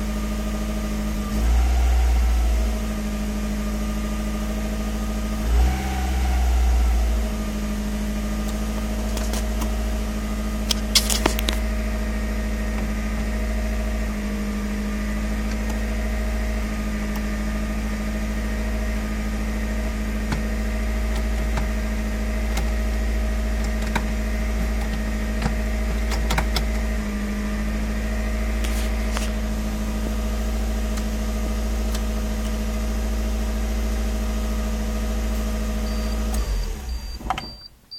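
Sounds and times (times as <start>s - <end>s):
car engine idling fast: 0.0s - 37.6s.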